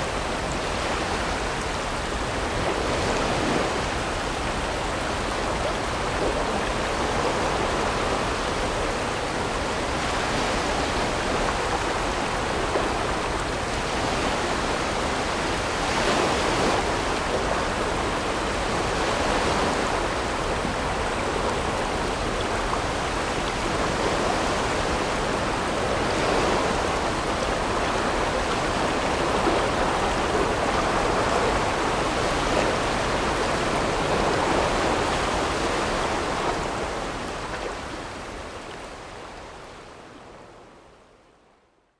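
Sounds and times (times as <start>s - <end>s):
river water rushing: 0.0s - 41.6s.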